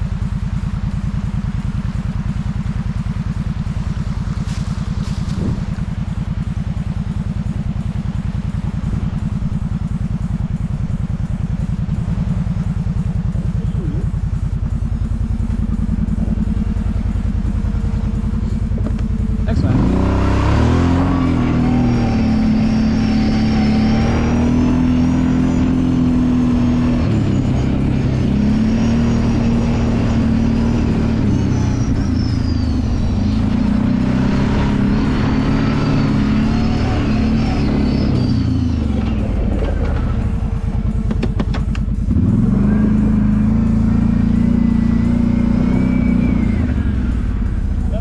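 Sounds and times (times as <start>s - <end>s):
atv engine revving: 0.0s - 48.0s
engine idling with firing pulses: 0.0s - 48.0s.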